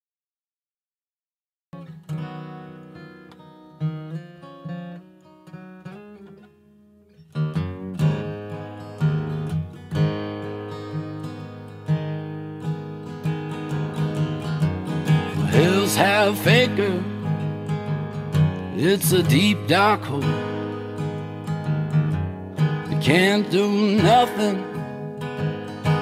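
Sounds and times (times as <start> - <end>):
acoustic guitar playing: 1.8 - 26.0.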